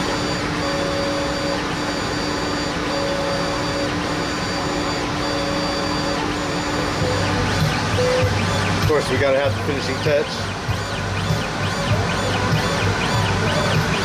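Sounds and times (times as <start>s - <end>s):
exhaust fan rushing: 0.0s - 14.0s
stepper motors whining: 0.0s - 14.0s.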